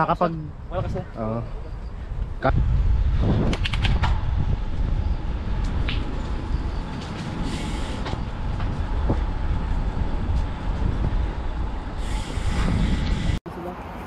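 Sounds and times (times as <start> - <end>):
wind buffeting microphone: 0.0 - 13.4
road noise: 0.0 - 14.0.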